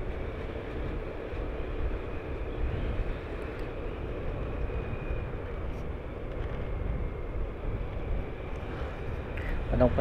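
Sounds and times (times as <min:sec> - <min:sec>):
road and wind rumble: 0:00.0 - 0:10.0
vehicle engine drone: 0:00.0 - 0:10.0.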